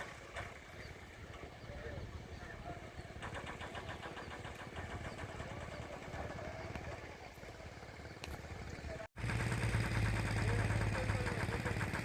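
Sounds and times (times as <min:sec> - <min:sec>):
diesel locomotive engine chugging: 0:00.0 - 0:12.0.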